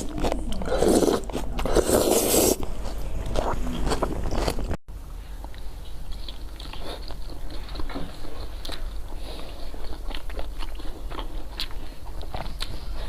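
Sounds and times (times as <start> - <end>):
person chewing: 0.0 - 4.8, 5.4 - 13.0.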